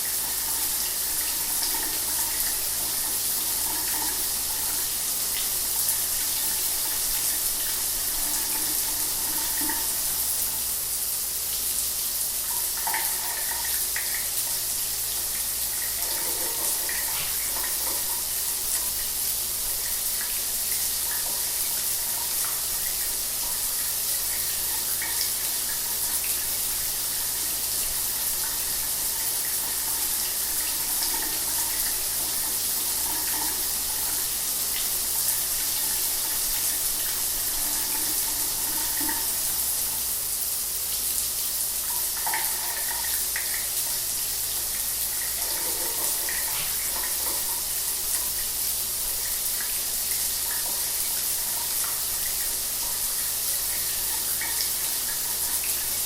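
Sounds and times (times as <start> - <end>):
shower water running: 0.0 - 56.0.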